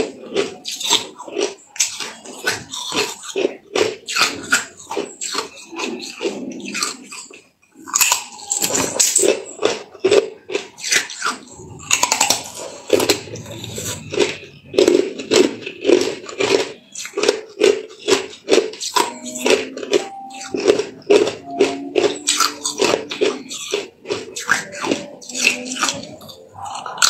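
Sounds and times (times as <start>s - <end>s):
ice crunching between teeth: 0.0s - 27.0s.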